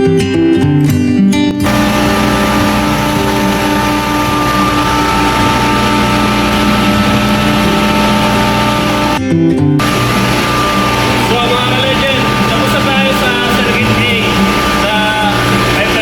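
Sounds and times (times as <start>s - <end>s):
loud machine noise: 1.6s - 9.2s, 9.8s - 16.0s
steady machine whine: 1.6s - 9.2s, 9.8s - 16.0s.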